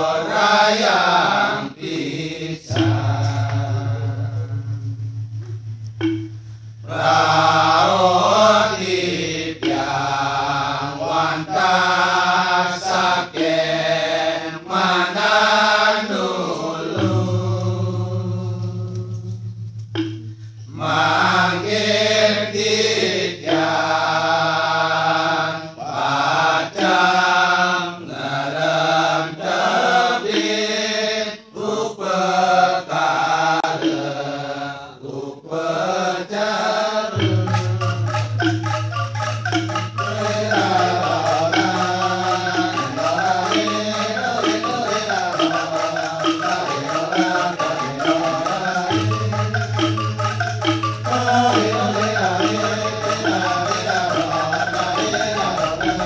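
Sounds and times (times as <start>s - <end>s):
men singing rhythmic chant: 0.0s - 4.6s, 6.9s - 19.2s, 20.7s - 38.6s, 39.2s - 56.0s
low held vocal drone: 0.0s - 5.0s, 6.8s - 19.6s, 20.6s - 38.1s, 40.0s - 56.0s.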